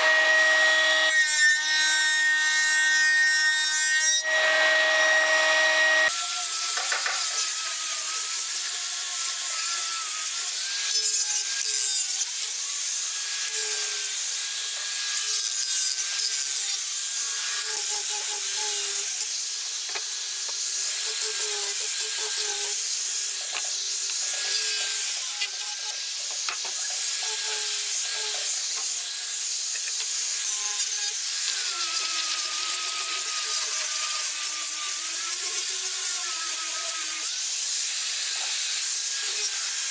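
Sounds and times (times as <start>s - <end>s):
angle grinder sanding wood: 4.3s - 39.9s.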